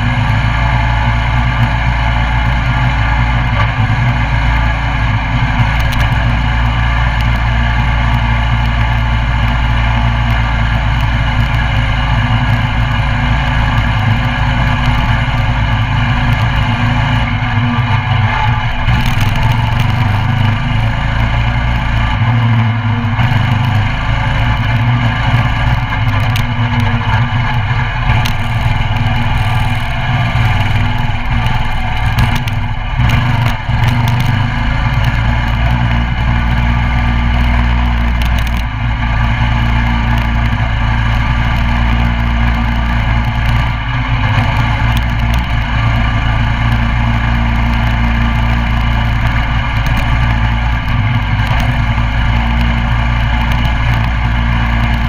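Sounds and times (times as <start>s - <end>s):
mini bike engine running: 0.0s - 55.0s.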